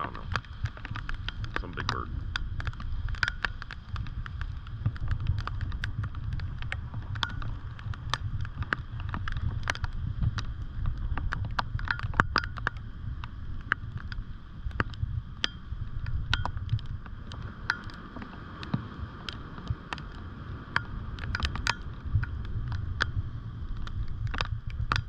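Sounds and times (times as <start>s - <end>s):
raindrops tapping on plastic housing: 0.0s - 25.0s
wind rumble on microphone: 0.0s - 25.0s.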